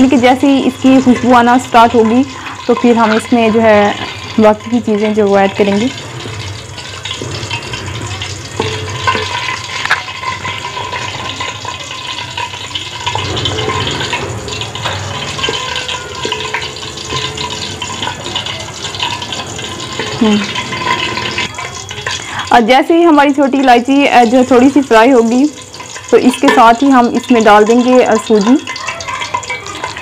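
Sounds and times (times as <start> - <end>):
spoon scraping a metal pot: 0.0 - 22.5, 24.3 - 30.0
oil sizzling: 0.0 - 30.0.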